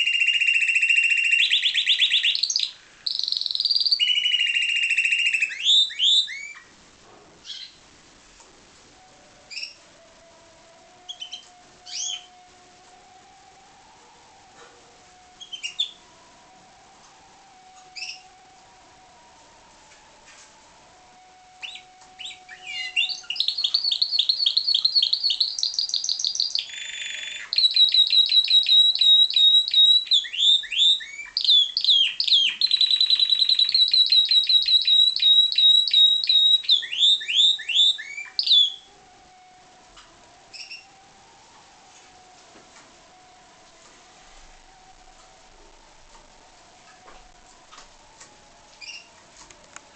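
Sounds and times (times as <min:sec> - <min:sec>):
canary singing: 0:00.0 - 0:06.8, 0:07.4 - 0:07.8, 0:09.0 - 0:49.8.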